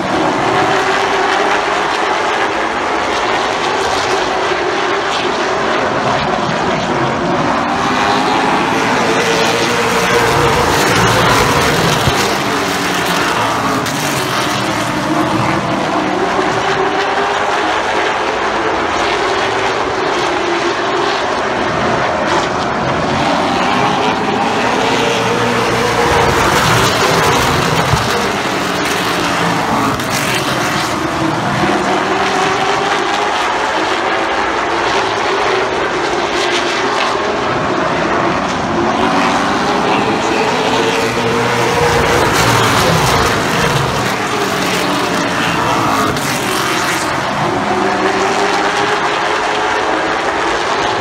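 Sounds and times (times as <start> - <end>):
race car engines passing: 0.0 - 51.0.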